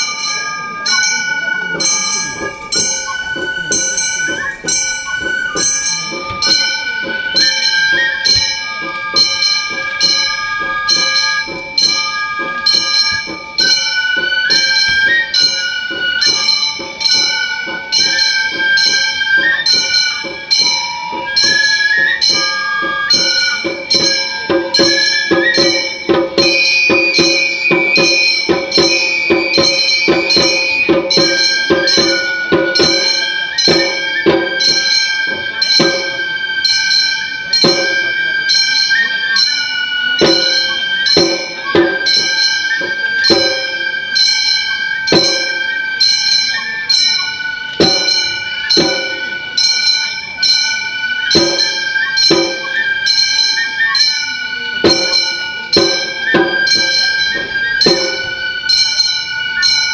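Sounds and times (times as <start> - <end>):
hand-struck gongs beating: 0.0 - 38.9, 40.1 - 46.2, 47.7 - 50.6, 54.8 - 59.4
drums: 0.0 - 59.9
high flute melody: 0.0 - 59.9.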